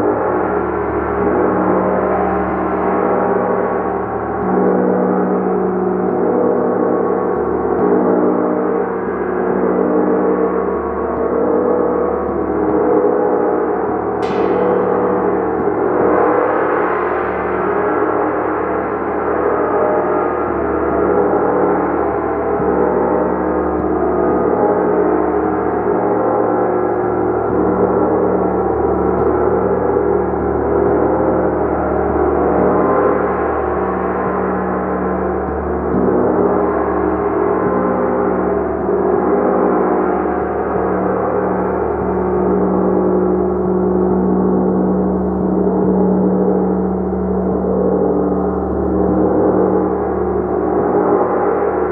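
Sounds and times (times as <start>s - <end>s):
large gong drone: 0.0s - 51.9s.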